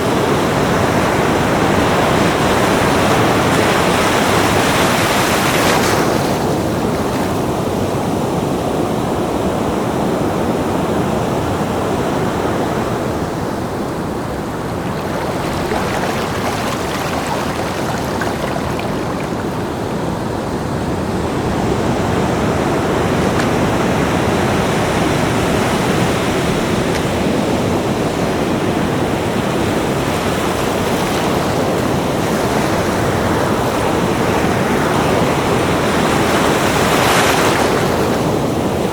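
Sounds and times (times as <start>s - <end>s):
ocean surf breaking waves: 0.0s - 38.9s.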